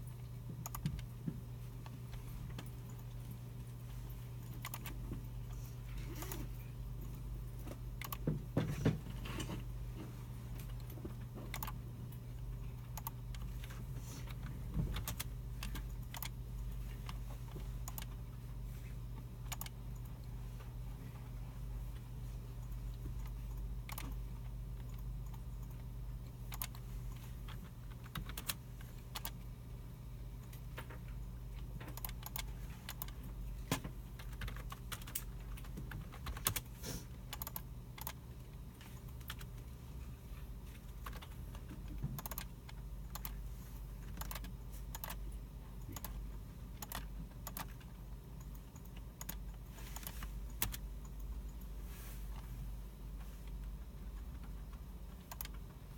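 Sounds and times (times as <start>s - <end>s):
low hum of machines: 0.0s - 55.9s
keyboard typing: 0.2s - 3.5s, 4.3s - 8.6s, 10.5s - 12.2s, 12.8s - 18.3s, 19.4s - 20.3s, 22.6s - 29.5s, 30.4s - 39.7s, 40.7s - 51.7s, 53.5s - 55.8s.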